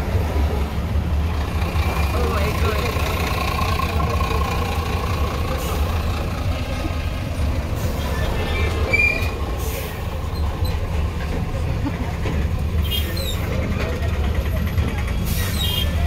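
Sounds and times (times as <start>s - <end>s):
diesel trucks rumbling: 0.0s - 16.0s.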